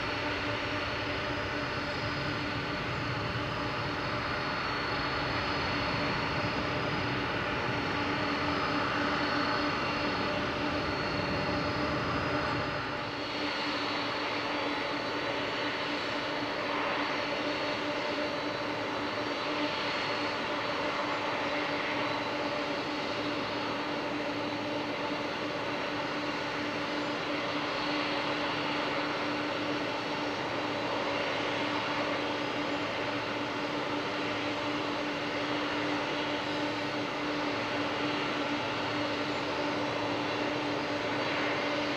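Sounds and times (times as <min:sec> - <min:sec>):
jet engines droning: 0:00.0 - 0:41.9.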